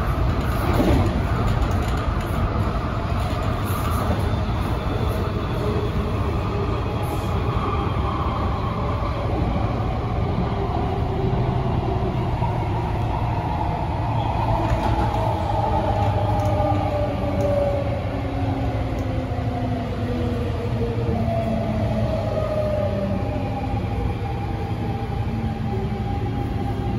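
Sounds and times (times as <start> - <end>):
train wheels rumbling on track: 0.0 - 26.9.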